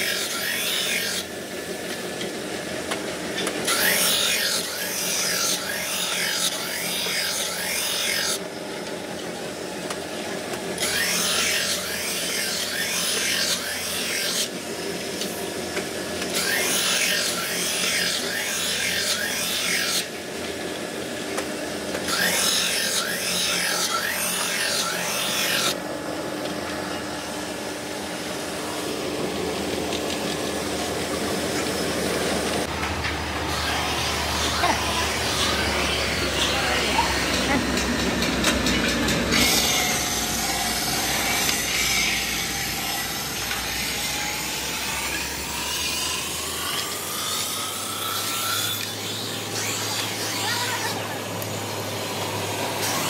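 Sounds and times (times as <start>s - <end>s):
grinding machine hum: 0.0s - 53.0s.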